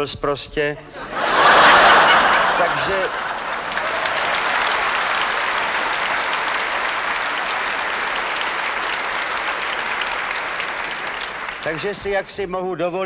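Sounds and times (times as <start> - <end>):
audience applauding: 1.2 - 12.4.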